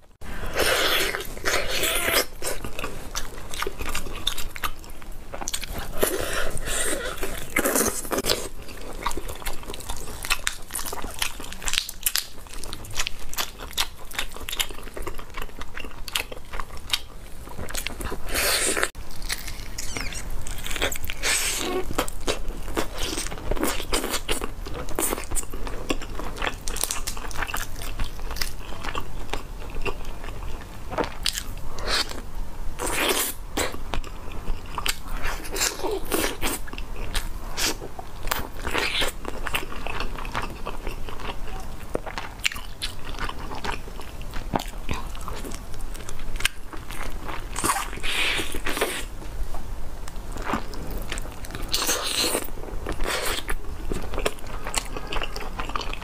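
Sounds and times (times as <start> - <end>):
crunchy biting and chewing: 0.4 - 32.2, 32.8 - 49.2, 50.3 - 56.0.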